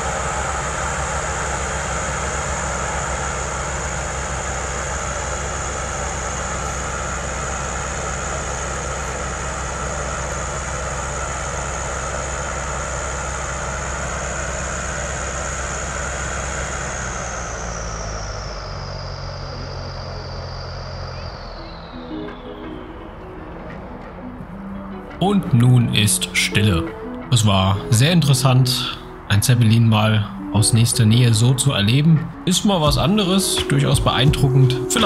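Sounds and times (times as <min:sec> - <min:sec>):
high engine whine: 0:00.0 - 0:35.0
low engine hum: 0:00.0 - 0:35.0.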